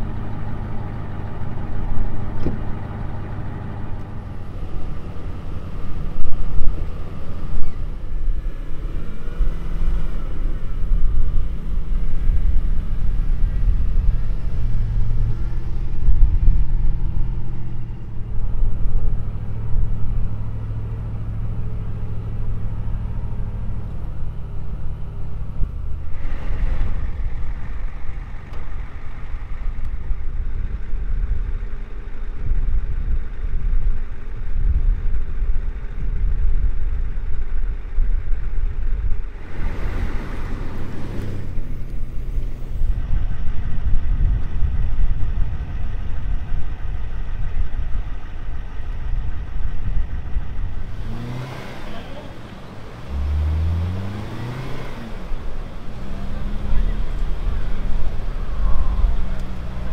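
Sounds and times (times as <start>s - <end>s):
truck engine rumble: 0.0s - 59.9s.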